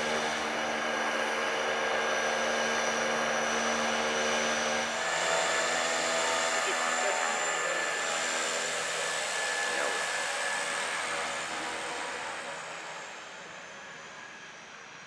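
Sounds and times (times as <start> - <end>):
high turbine whine: 0.0 - 15.0
propeller drone: 0.0 - 15.0.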